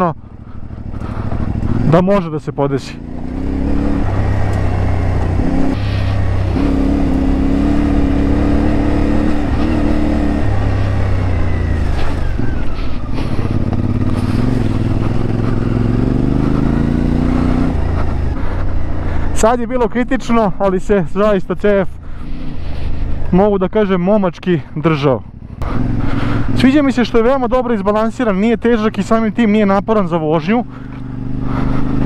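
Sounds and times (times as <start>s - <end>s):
motorcycle engine revving: 0.0s - 20.6s, 21.6s - 23.6s, 24.9s - 32.0s.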